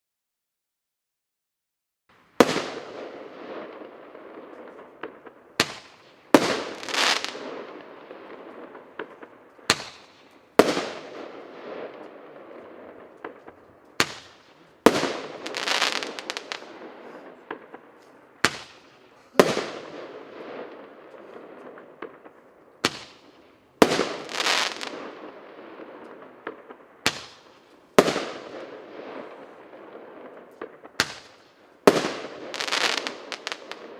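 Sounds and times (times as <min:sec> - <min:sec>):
firework crackle: 0:02.1 - 0:33.9.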